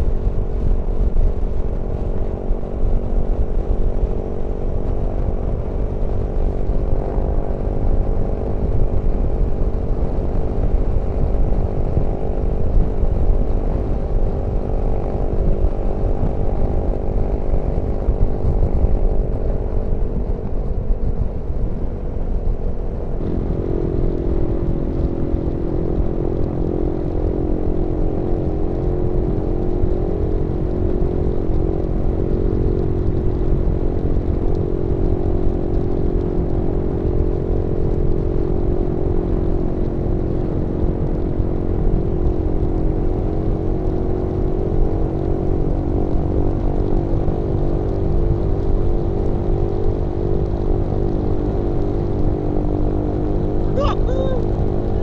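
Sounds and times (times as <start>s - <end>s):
motorcycle engine cruising: 0.0s - 55.0s
wind rumble: 0.0s - 55.0s.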